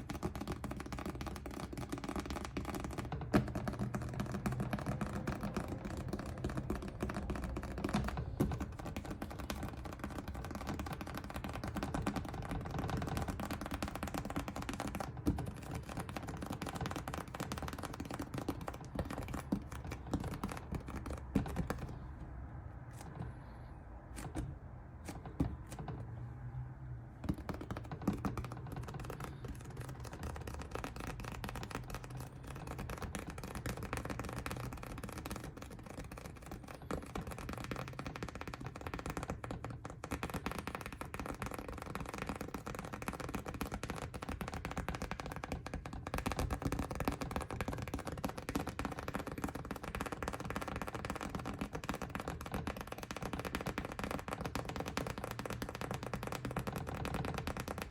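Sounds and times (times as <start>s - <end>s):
scratching and clicking on a surface: 0.0s - 26.2s, 27.2s - 57.9s.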